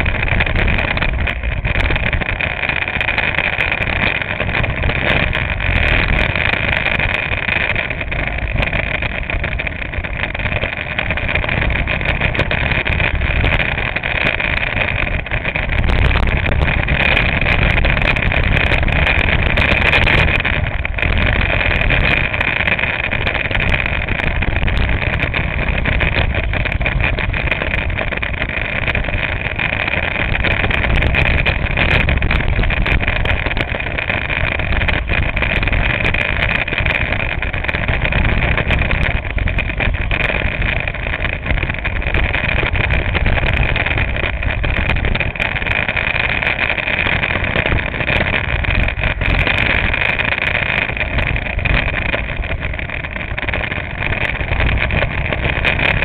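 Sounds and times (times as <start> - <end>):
go-kart engine drone: 0.0 - 56.0.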